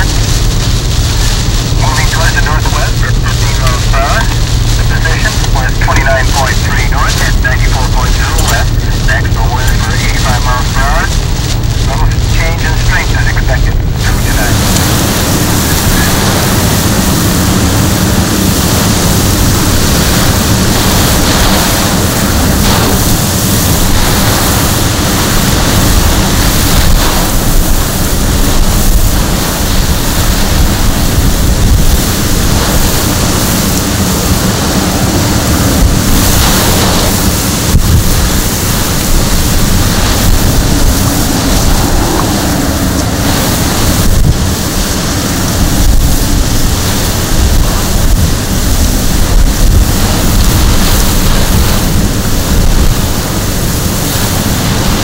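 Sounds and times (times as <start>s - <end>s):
driving rain: 0.0s - 55.0s
wind buffeting microphone: 0.0s - 55.0s.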